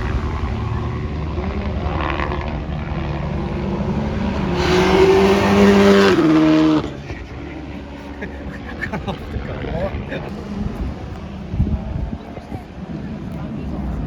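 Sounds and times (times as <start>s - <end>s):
rally car passing at speed: 0.0s - 12.0s.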